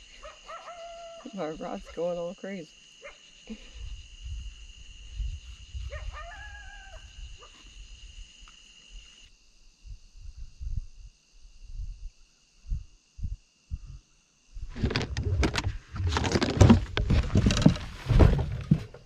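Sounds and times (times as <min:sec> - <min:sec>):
night insects droning: 0:00.0 - 0:19.0.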